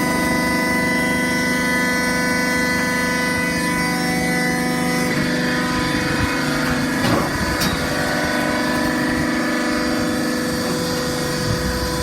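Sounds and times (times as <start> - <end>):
hydraulic press motor humming: 0.0 - 12.0.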